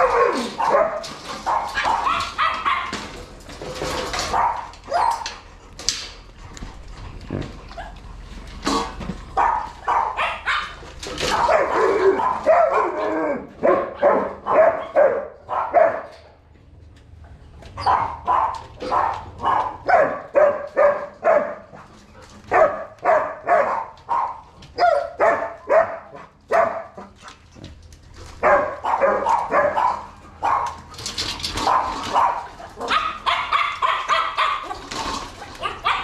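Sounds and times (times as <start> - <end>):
large dogs barking and yelping: 0.0 - 36.0.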